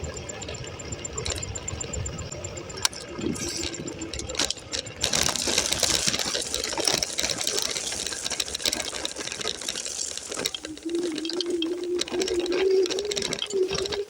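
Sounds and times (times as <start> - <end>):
bike rattling over rough trail: 0.0 - 14.0.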